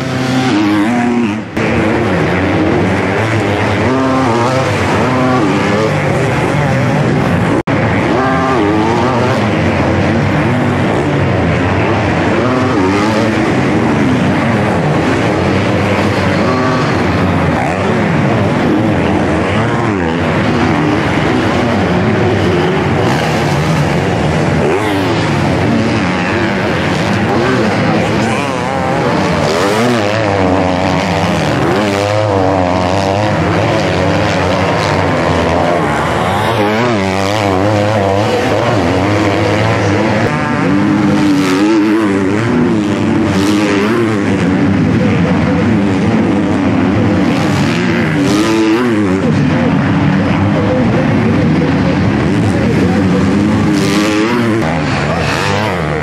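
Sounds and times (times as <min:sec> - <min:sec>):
motocross bike engines revving: 0:00.0 - 0:56.0
steady roar of track noise: 0:00.0 - 0:56.0.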